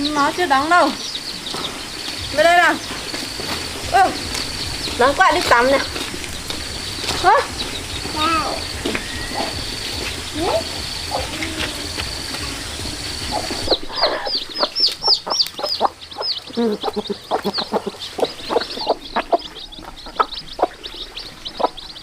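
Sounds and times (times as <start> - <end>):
chickens cheeping and clucking: 0.0 - 22.0.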